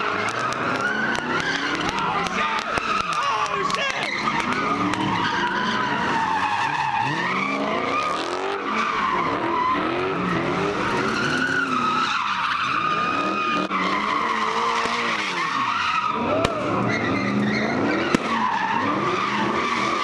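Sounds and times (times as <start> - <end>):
engines revving: 0.0 - 20.0
tires squealing: 0.0 - 20.0.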